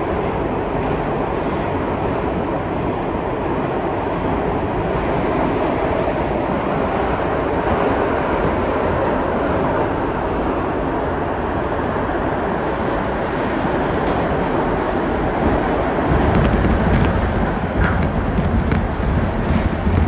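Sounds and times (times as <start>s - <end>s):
subway train rumble: 0.0s - 20.0s.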